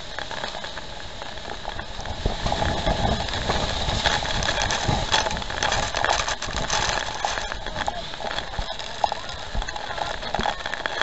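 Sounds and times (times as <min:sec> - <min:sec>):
wind buffeting microphone: 0:00.0 - 0:11.0
deep rumbles: 0:01.3 - 0:11.0
water spattering: 0:02.0 - 0:11.0.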